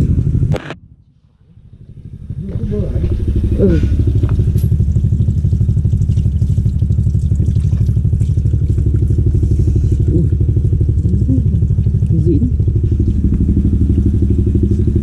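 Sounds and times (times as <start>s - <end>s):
compressor running with fast pulse: 0.0s - 15.0s.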